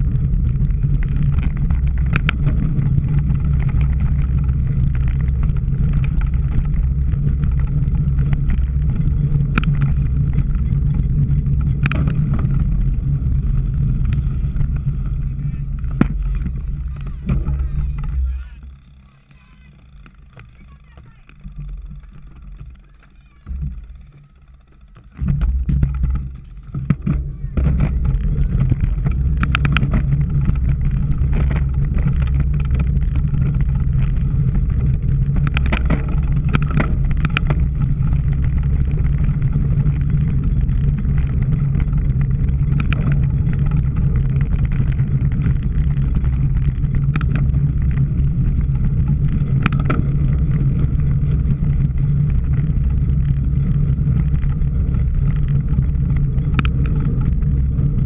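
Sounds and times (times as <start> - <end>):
bike riding noise: 0.0 - 58.0
sharp clicks and rattles: 0.0 - 58.0
wind rumble: 0.0 - 58.0.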